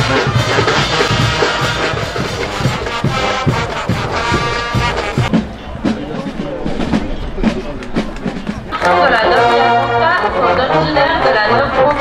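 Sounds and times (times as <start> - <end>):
drums and cymbals beat: 0.0 - 9.6
brass band playing: 0.0 - 12.0.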